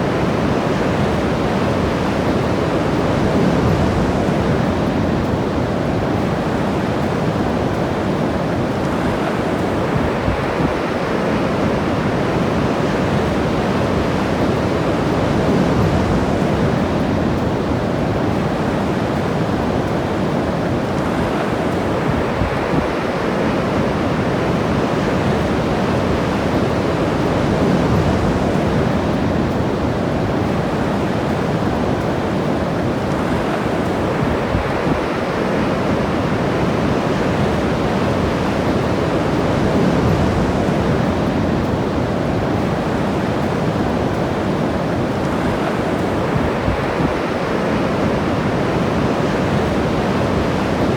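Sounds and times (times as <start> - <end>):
ocean waves breaking on beach: 0.0 - 50.9
wind rumbling on microphone: 0.0 - 50.9.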